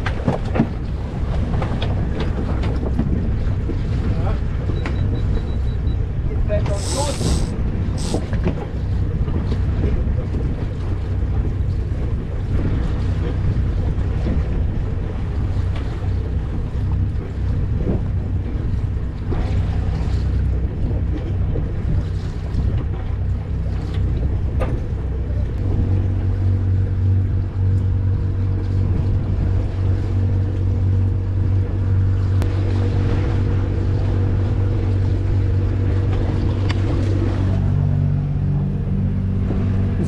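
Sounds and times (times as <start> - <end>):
boat diesel engine running: 0.0 - 40.0
water noise: 0.0 - 40.0
wind: 0.0 - 40.0.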